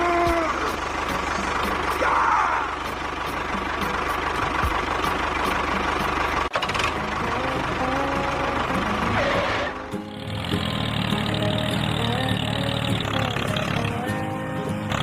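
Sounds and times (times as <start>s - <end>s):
engine-like running noise: 0.0s - 15.0s.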